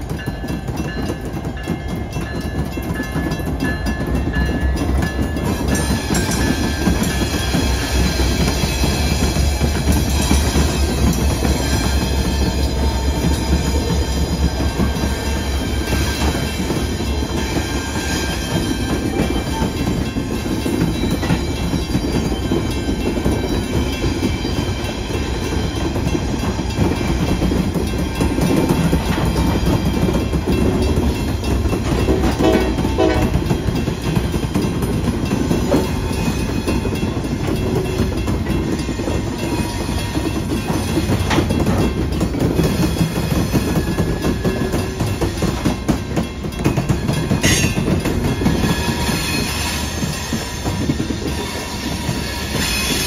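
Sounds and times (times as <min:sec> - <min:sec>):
train wheels clickety-clack: 0:00.0 - 0:53.0.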